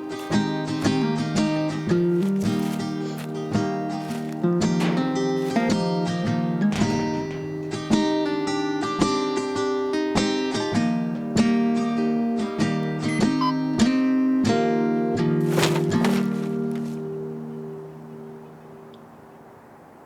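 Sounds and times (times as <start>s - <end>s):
acoustic guitar picking and strumming: 0.0s - 18.5s.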